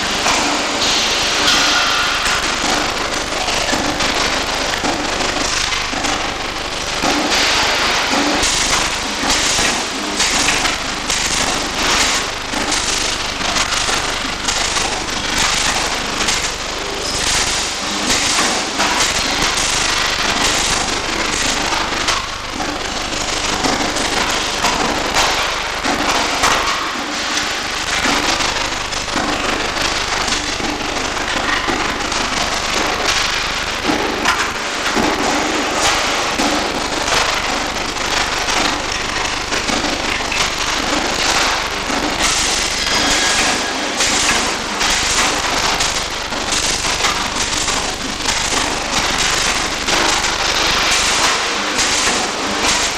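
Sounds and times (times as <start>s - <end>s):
arc welding crackling: 0.0s - 52.9s.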